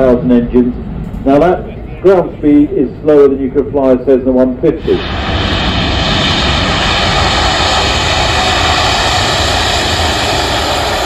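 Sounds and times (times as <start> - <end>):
faint jet whine: 0.0 - 11.0
jet engine rush: 0.0 - 11.0.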